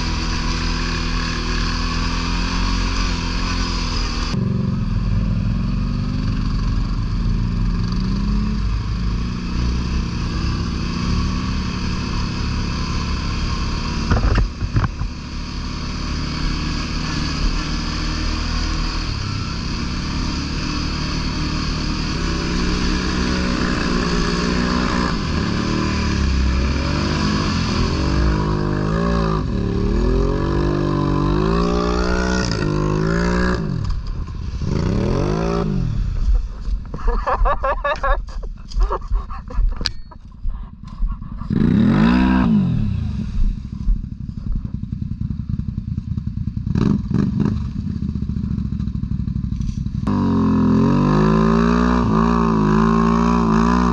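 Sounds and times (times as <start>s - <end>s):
atv engine revving: 0.0s - 39.2s, 40.9s - 53.9s.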